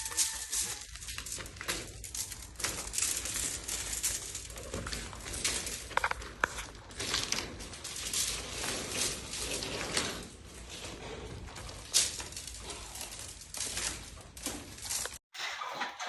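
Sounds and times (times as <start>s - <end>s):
copper pipe scraping and rustling: 0.0s - 16.0s.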